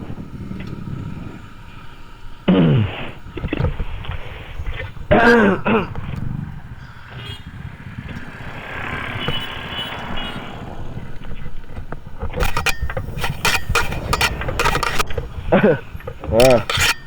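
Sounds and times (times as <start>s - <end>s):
motorcycle engine and road rumble: 0.0s - 17.0s.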